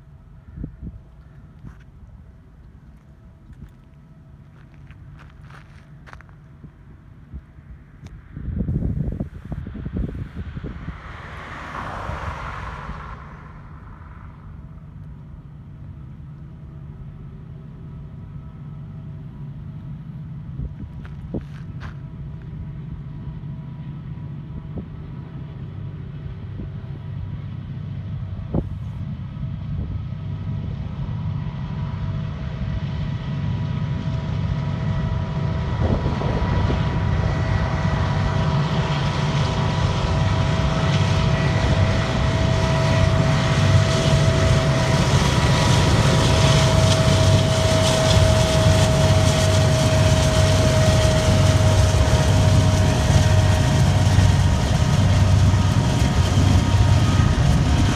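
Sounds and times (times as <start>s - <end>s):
locomotive engine rumble: 0.0s - 57.9s.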